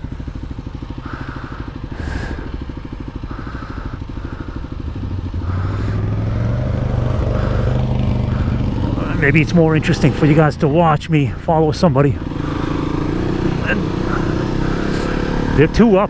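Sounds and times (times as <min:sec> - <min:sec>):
atv engine passing by: 0:00.0 - 0:16.0
motorcycle engine idling: 0:00.0 - 0:16.0.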